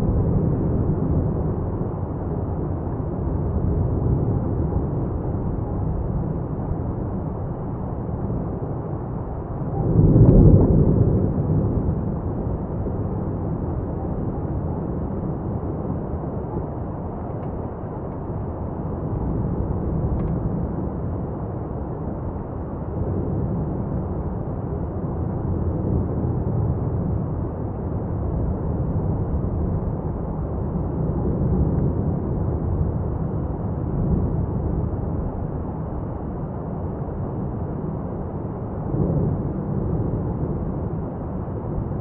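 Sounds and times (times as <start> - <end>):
lava fountain rumbling: 0.0 - 42.0.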